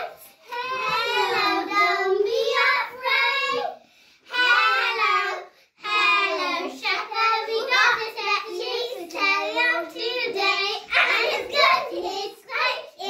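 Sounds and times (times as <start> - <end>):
girls singing a carol: 0.0 - 13.0.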